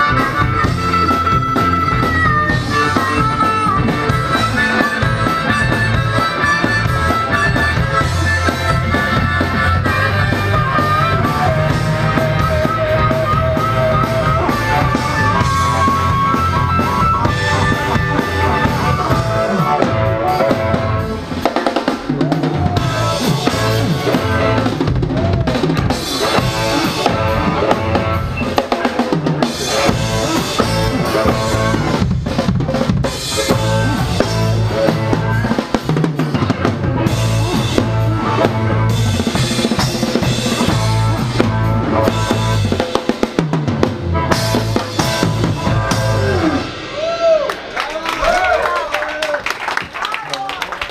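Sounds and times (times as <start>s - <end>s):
harmonica bending notes: 0.0s - 21.6s, 22.8s - 46.9s
drum kit: 0.0s - 48.9s
bass guitar: 0.0s - 49.2s
electric guitar: 0.0s - 49.3s.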